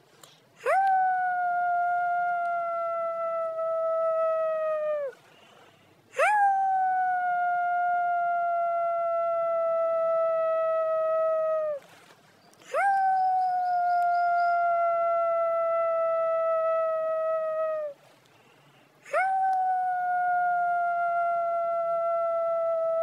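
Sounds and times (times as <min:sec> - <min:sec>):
long howling cries: 0:00.6 - 0:05.2, 0:06.1 - 0:11.9, 0:12.7 - 0:18.0, 0:19.0 - 0:23.0.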